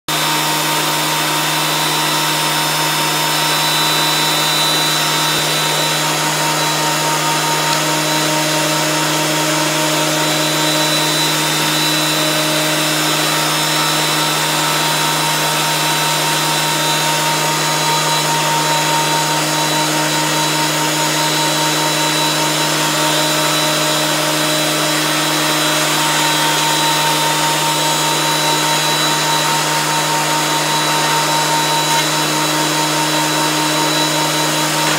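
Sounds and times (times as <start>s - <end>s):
electric wood planer running: 0.0s - 34.9s.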